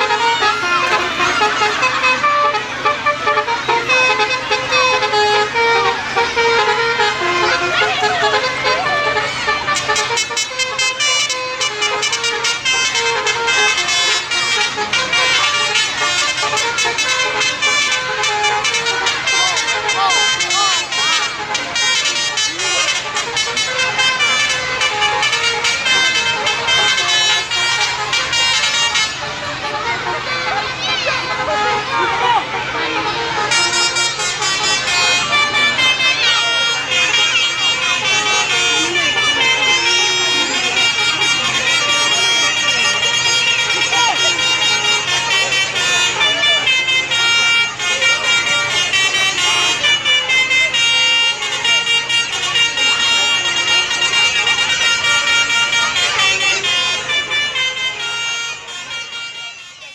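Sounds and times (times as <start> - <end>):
musical horns playing a tune: 0.0 - 59.9.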